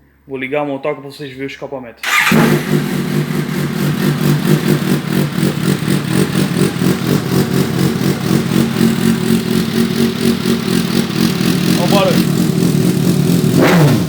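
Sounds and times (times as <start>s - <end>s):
motorcycle engine starting and idling: 2.0s - 14.0s.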